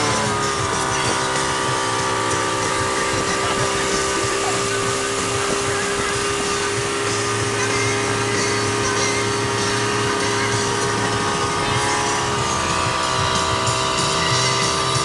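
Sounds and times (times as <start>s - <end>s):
boat engine humming: 0.0s - 15.0s
wind and water rushing: 0.0s - 15.0s.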